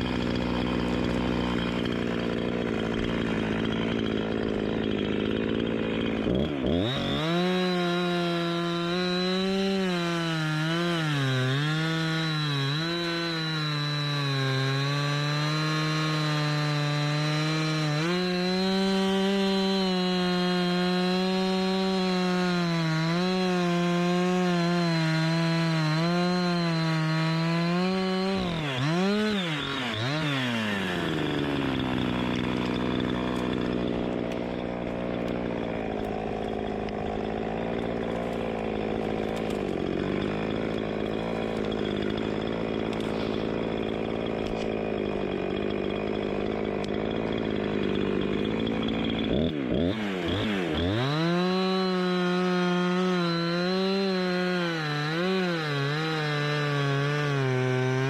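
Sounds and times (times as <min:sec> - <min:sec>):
chainsaw revving: 0:00.0 - 0:58.0
chainsaw sawing wood: 0:00.0 - 0:58.0.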